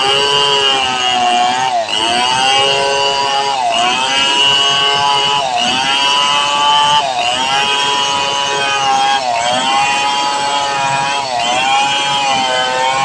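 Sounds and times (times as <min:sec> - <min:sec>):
chainsaw cutting log at full throttle: 0:00.0 - 0:13.0.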